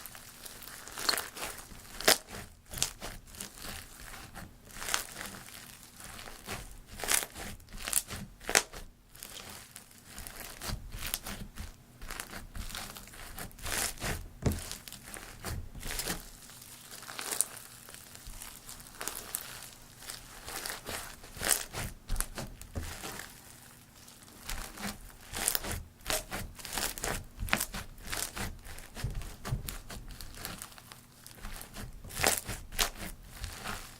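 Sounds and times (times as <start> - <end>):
slime crackling and popping: 0.0 - 33.9.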